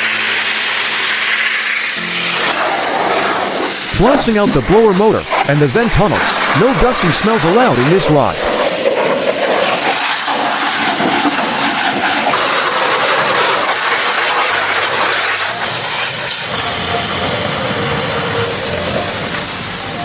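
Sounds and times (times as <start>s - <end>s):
pressure washer spraying: 0.0s - 20.0s.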